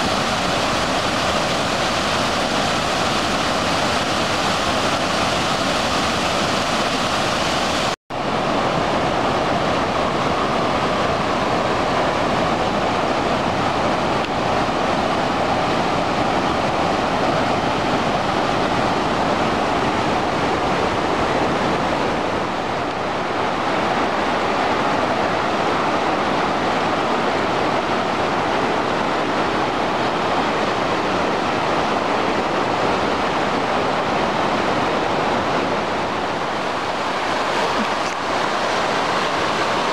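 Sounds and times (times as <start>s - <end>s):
floodwater rushing over rocks: 0.0s - 39.9s.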